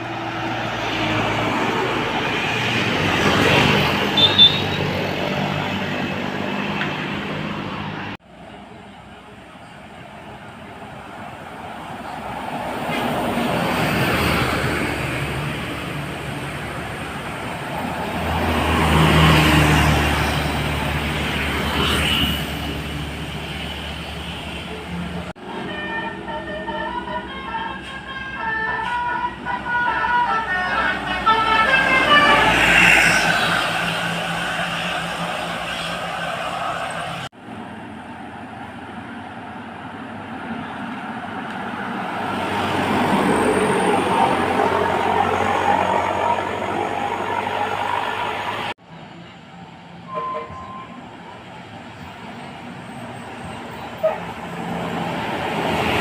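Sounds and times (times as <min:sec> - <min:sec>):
vehicle approaching: 0:00.0 - 0:50.0
bus engine hum: 0:00.0 - 0:56.0
passing traffic: 0:00.0 - 0:56.0.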